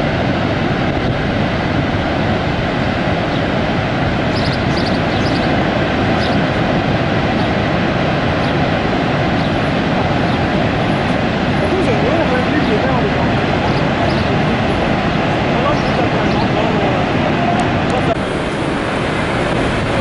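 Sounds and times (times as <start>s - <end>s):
waterfall roar: 0.0s - 20.0s.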